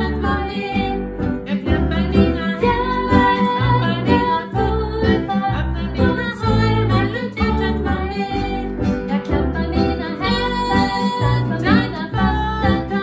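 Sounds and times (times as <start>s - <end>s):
strummed acoustic guitar: 0.0s - 13.0s
two women singing: 0.0s - 13.0s.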